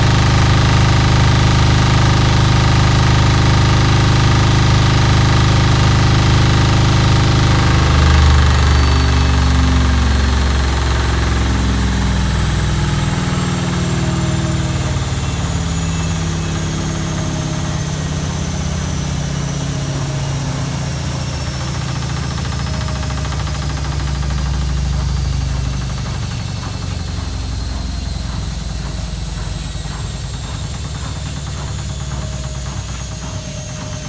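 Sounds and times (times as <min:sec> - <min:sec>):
high motor whine: 0:00.0 - 0:34.0
washing machine spinning: 0:00.0 - 0:34.0.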